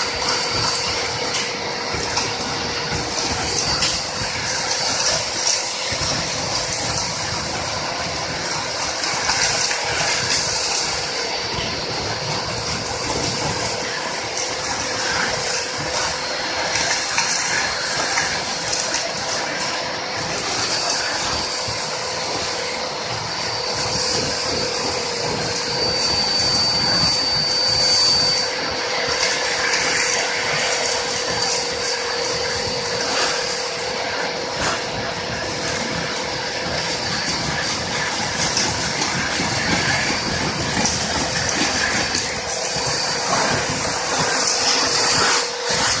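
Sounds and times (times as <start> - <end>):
industrial vacuum cleaner running: 0.0 - 46.0.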